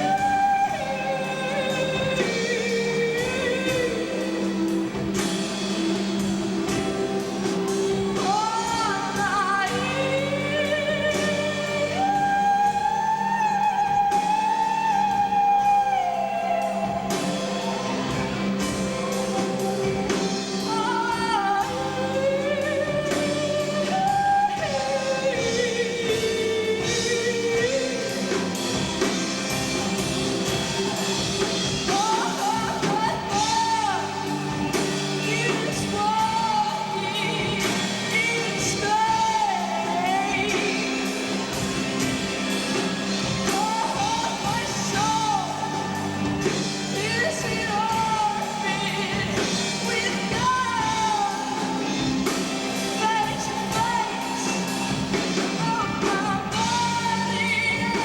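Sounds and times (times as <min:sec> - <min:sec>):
band instrumental backing: 0:00.0 - 0:58.0
person singing: 0:00.0 - 0:58.0.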